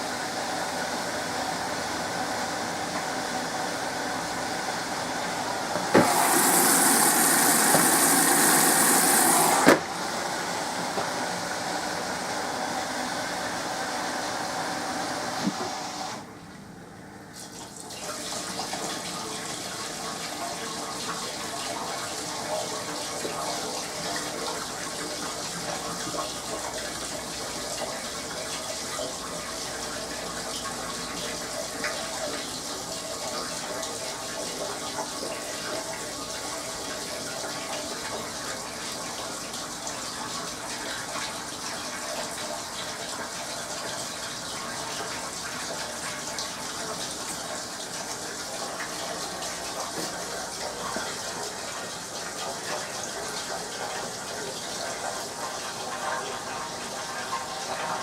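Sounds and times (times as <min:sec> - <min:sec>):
water rushing into washing machine: 0:00.0 - 0:16.3, 0:17.4 - 0:58.0.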